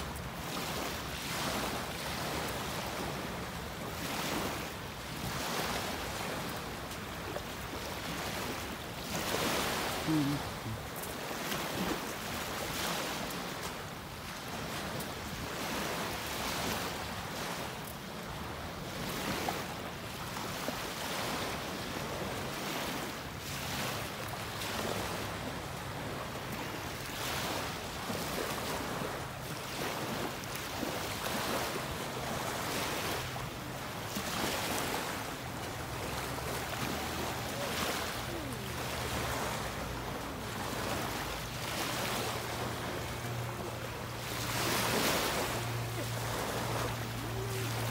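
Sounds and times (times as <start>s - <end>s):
small waves lapping on sand: 0.0s - 47.9s.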